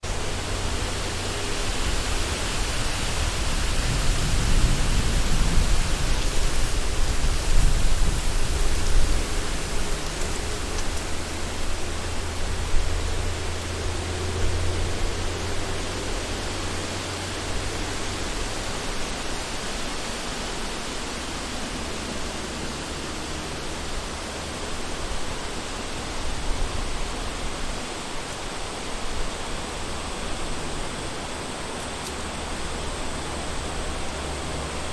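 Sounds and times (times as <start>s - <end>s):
wind blowing through forest: 0.0s - 34.9s.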